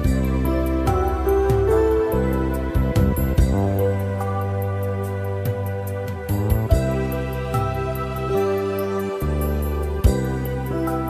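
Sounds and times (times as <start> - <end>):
instrumental new-age music: 0.0 - 11.0.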